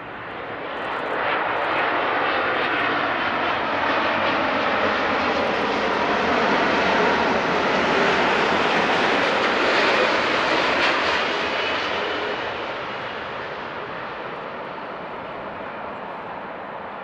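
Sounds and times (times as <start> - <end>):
jet airliner engines rushing: 0.0 - 17.0.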